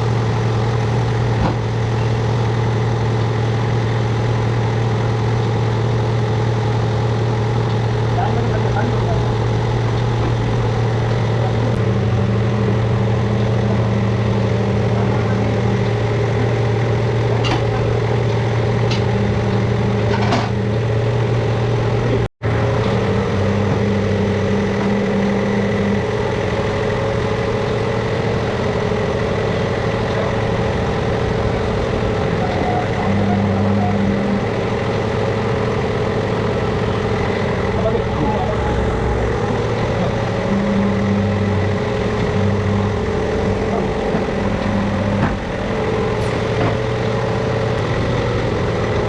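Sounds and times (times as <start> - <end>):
motor droning: 0.0 - 49.0
higher hum: 5.7 - 49.0.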